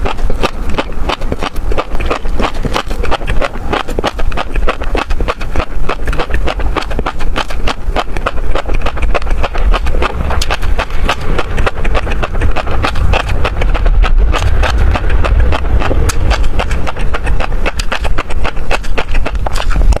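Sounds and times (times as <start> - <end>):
chewing crisp fish roe: 0.0 - 20.0.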